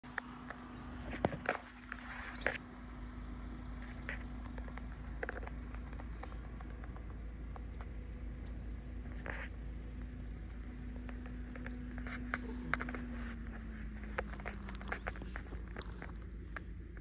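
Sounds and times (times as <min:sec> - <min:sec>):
insects chirring: 0:00.0 - 0:17.0
low steady rumble: 0:00.0 - 0:17.0.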